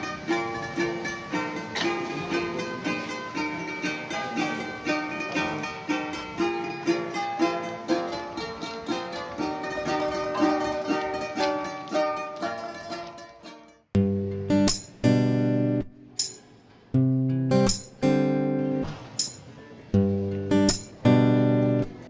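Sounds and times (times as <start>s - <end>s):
plucked-string tune: 0.0s - 22.0s.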